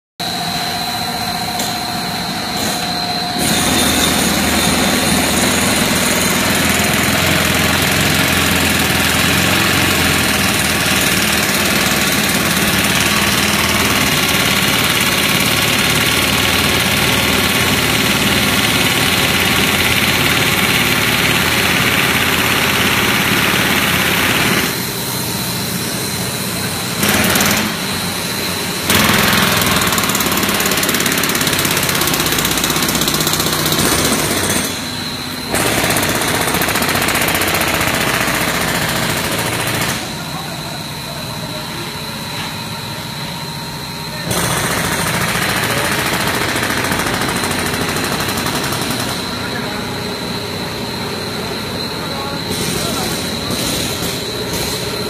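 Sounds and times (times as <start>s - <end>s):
extrusion machinery running: 0.2s - 55.0s
high machine whine: 0.2s - 55.0s.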